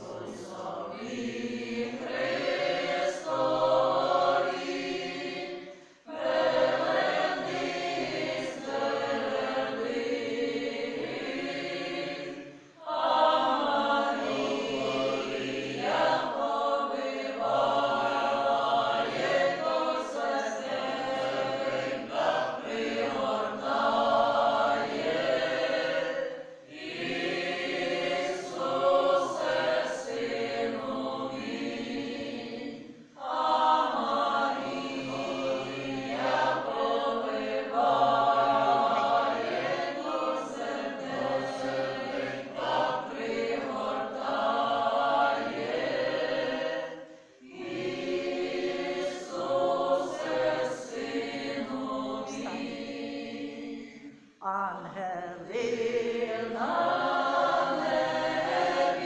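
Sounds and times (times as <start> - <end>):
mixed choir singing unaccompanied: 0.0 - 59.0.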